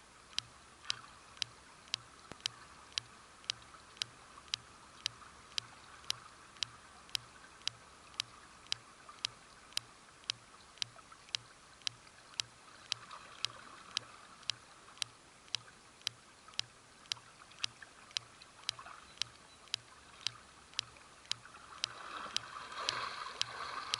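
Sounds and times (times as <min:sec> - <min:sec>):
regular clicking: 0:00.2 - 0:23.9.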